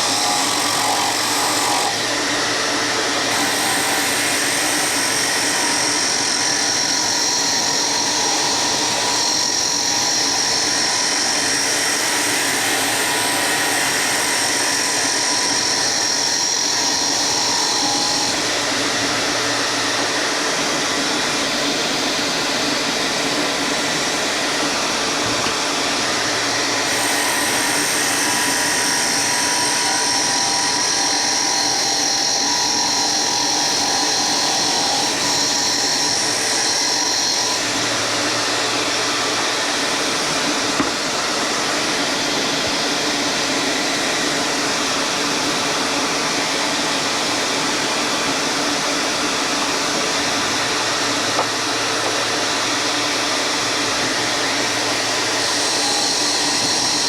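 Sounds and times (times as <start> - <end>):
power tool whining on wood: 0.0 - 57.0.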